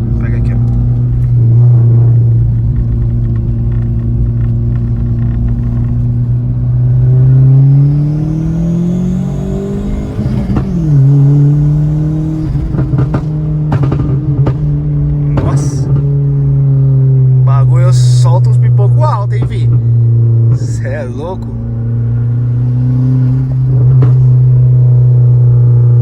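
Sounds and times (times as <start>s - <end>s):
car engine revving: 0.0s - 26.0s
exhaust pops: 0.0s - 26.0s.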